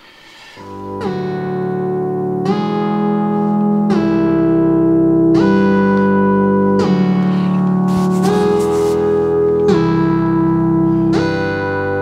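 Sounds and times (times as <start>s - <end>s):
music with sustained chords: 0.6s - 12.0s.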